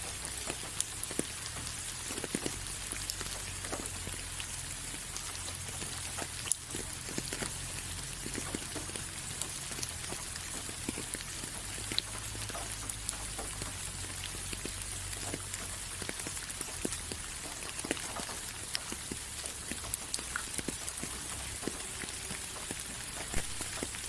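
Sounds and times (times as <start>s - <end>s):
rain falling: 0.0s - 24.0s
raindrops striking close by: 0.0s - 24.0s.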